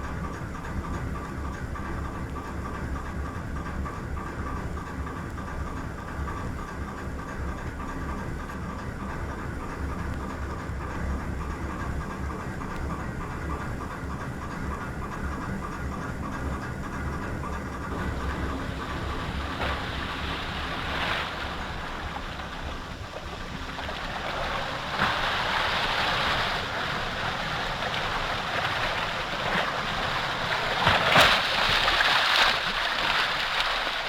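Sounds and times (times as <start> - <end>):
ship engine running: 0.0 - 34.0.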